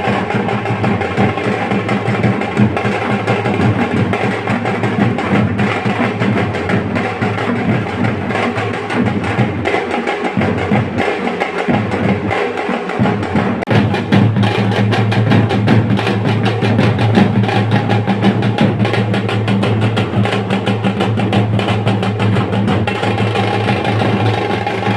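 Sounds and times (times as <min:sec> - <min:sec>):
fast drum beat: 0:00.0 - 0:24.9.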